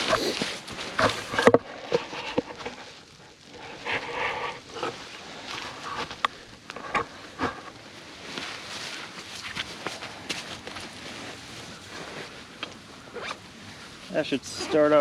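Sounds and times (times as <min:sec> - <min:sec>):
kindling crackling: 0:00.0 - 0:15.0
sticks rustling being handled: 0:00.0 - 0:15.0.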